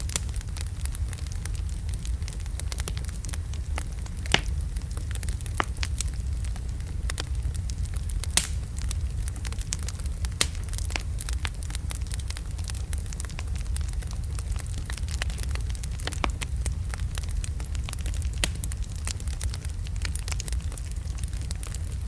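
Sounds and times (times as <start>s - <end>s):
fire crackling and popping: 0.0s - 22.0s
low rumble of flame: 0.0s - 22.0s.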